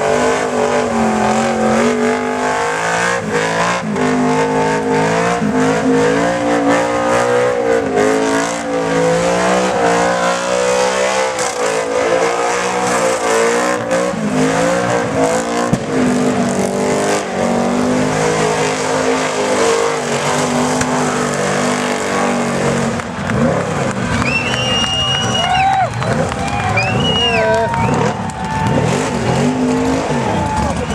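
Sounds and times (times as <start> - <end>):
car engine revving high: 0.0 - 30.9.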